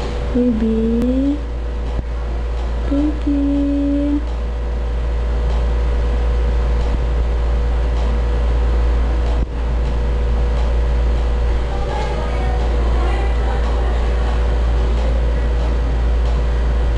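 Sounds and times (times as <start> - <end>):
low equipment hum: 0.0 - 16.9.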